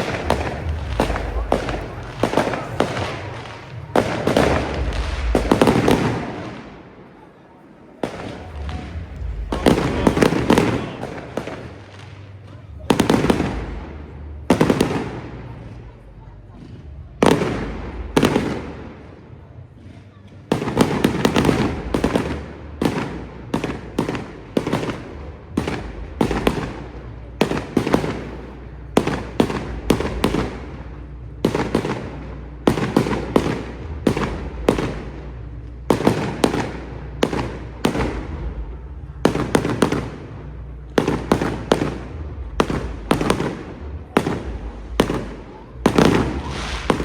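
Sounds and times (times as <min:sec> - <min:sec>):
fireworks bangs: 0:00.0 - 0:47.0.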